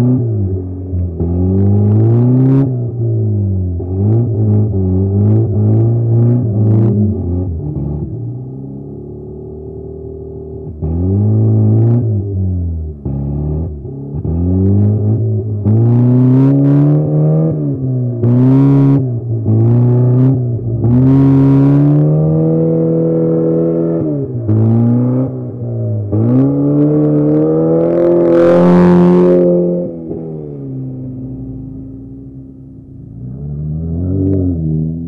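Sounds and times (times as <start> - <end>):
race car engines revving: 0.0 - 35.0.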